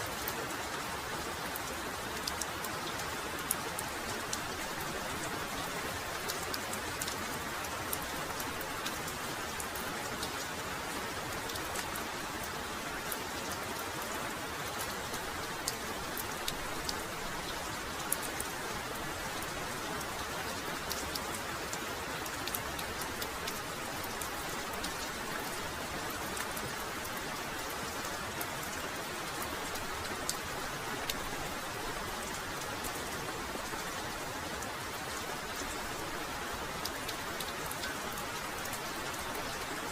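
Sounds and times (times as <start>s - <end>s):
raindrops ticking on surfaces: 0.0s - 39.9s.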